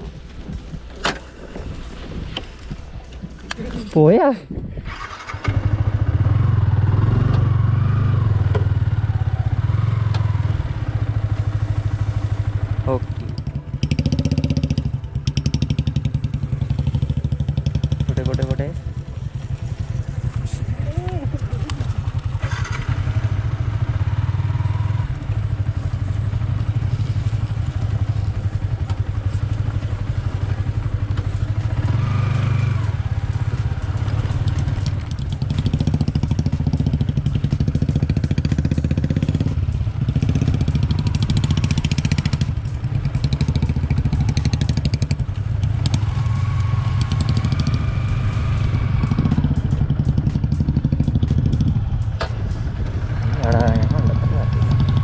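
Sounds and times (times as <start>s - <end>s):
motorcycle engine at low revs: 4.6s - 55.0s.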